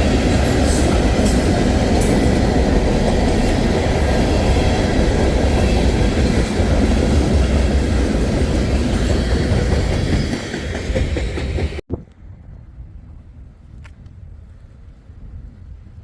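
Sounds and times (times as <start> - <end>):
train wheels rumbling and clattering: 0.0 - 14.0.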